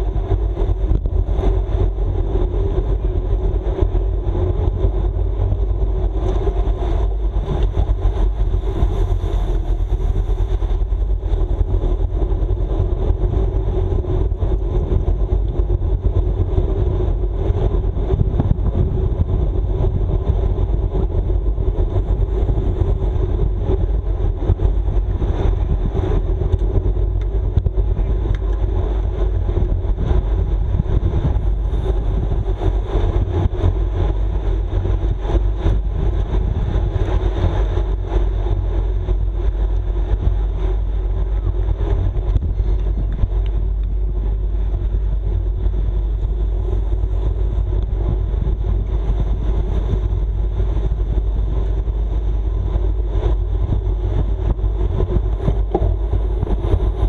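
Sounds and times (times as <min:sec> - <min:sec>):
bike tyres on asphalt: 0:00.0 - 0:57.0
wind rushing over microphone: 0:00.0 - 0:57.0.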